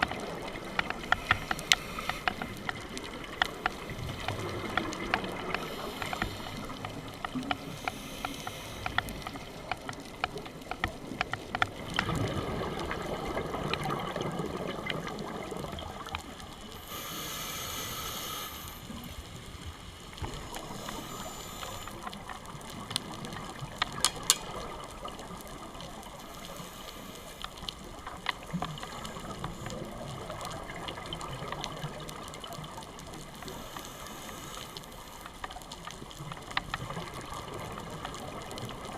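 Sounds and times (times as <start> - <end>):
scuba regulator bubbles gurgling: 0.0 - 38.9
underwater clicks and crackles: 0.0 - 38.9.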